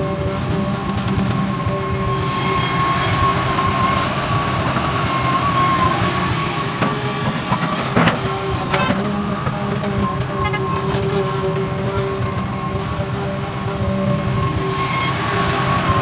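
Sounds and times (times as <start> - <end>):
excavator engine drone: 0.0 - 16.0.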